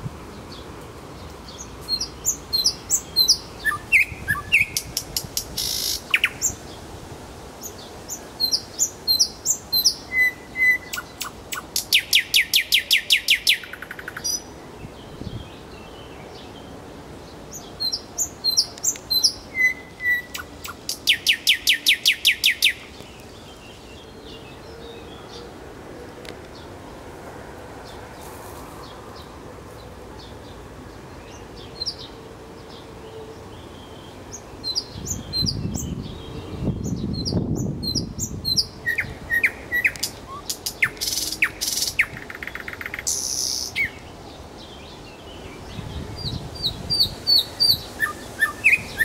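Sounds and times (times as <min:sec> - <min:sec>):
thrush nightingale singing: 0:00.4 - 0:06.9, 0:07.6 - 0:25.6, 0:30.2 - 0:49.0.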